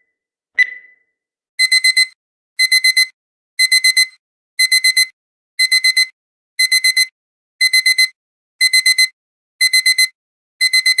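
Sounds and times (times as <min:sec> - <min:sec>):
alarm clock beeping: 0:01.6 - 0:11.0.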